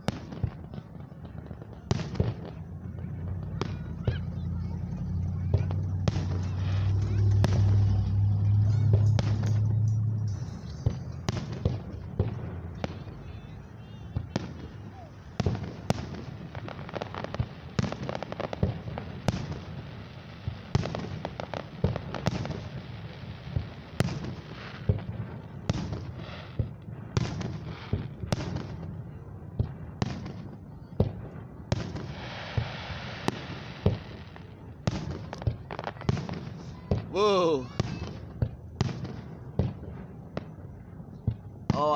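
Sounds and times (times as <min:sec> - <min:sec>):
crackling firework shells: 0:00.0 - 0:41.9
fireworks booming bursts: 0:00.0 - 0:41.9.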